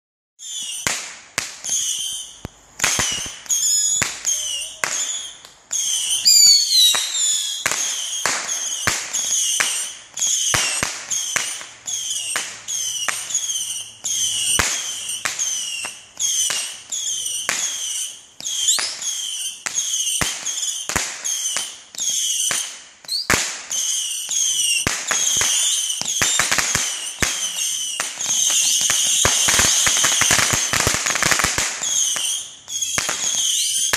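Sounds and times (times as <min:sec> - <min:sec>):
fireworks banging: 0:00.4 - 0:33.9
high whistles of fireworks: 0:00.4 - 0:33.9.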